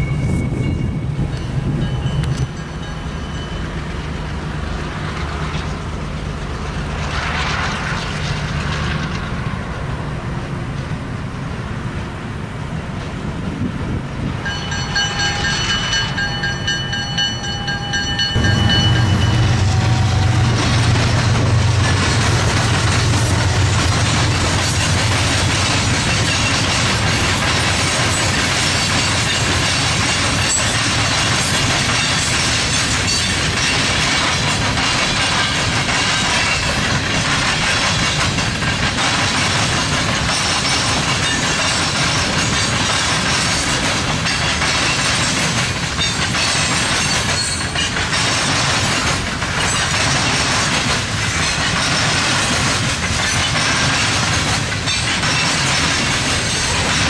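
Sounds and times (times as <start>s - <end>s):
diesel locomotive drone: 0.0s - 57.0s
train wheels clacking over rail joints: 4.2s - 9.7s, 14.4s - 57.0s.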